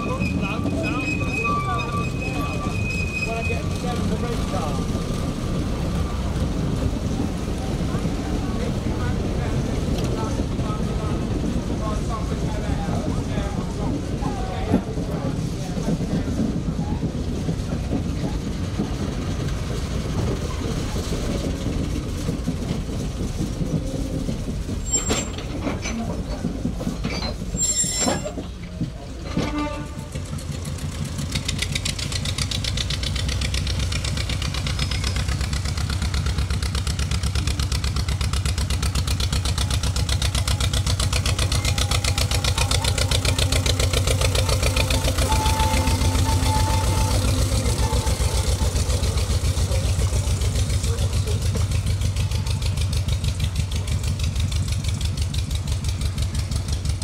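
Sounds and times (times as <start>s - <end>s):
locomotives passing: 0.0s - 27.6s, 28.2s - 57.0s
locomotive engine running: 0.0s - 57.0s.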